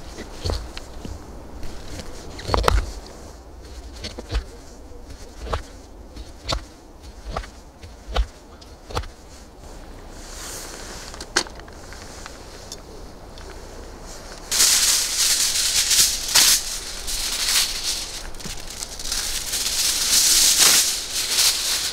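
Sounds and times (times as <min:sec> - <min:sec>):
rustle: 0:00.0 - 0:21.9.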